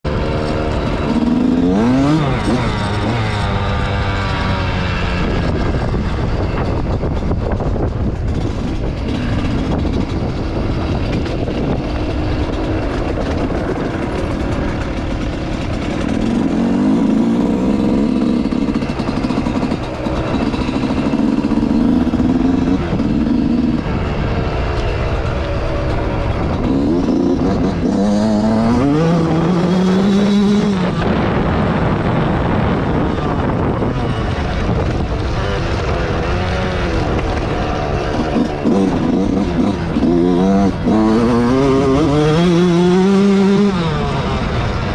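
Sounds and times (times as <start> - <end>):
motocross bike engine revving: 0.1 - 44.9.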